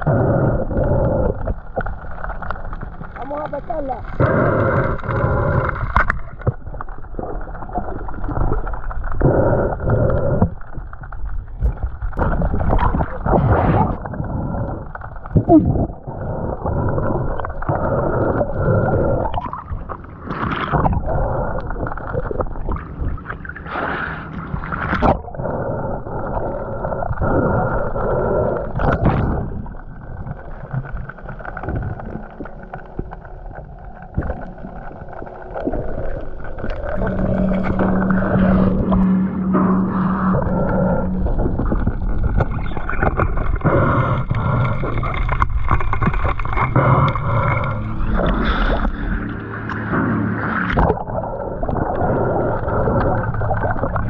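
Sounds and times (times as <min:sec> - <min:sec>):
underwater rushing water: 0:00.0 - 0:54.0.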